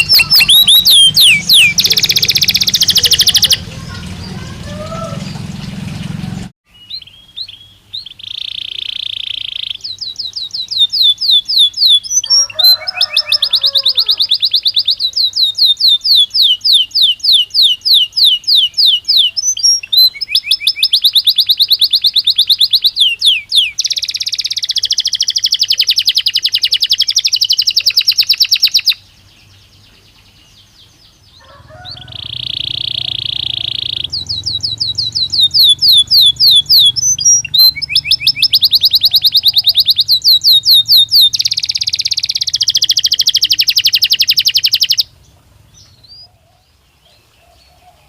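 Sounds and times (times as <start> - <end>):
canary singing: 0.0 - 48.0.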